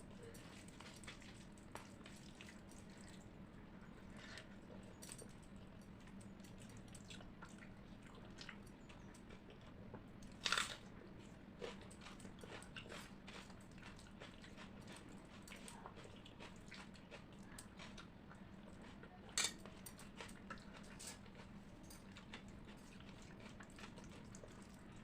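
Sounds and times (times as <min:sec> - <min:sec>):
faint low hum: 0:00.0 - 0:25.0
person chewing food: 0:00.3 - 0:03.2, 0:03.8 - 0:25.0.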